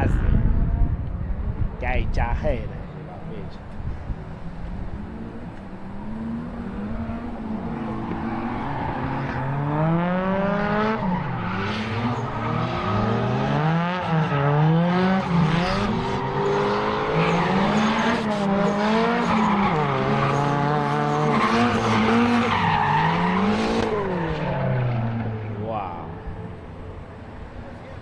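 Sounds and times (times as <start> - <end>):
go-kart engine revving: 3.6 - 27.6.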